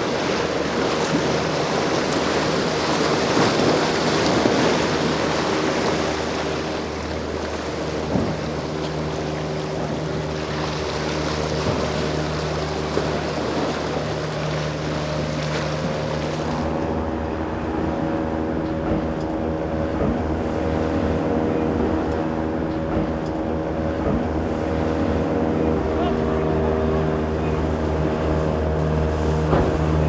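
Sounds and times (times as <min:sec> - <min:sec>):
motorboat engines running: 0:00.0 - 0:30.0
waves: 0:00.0 - 0:30.0
wind: 0:00.0 - 0:30.0.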